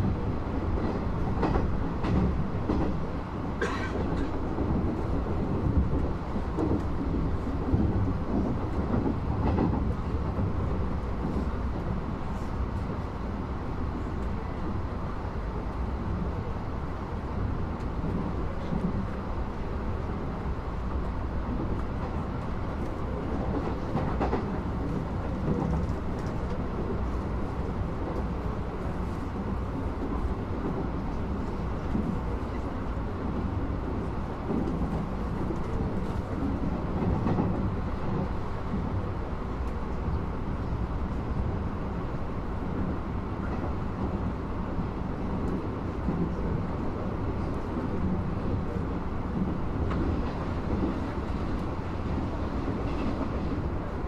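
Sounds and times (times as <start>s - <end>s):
train running with low rumble: 0.0s - 54.0s.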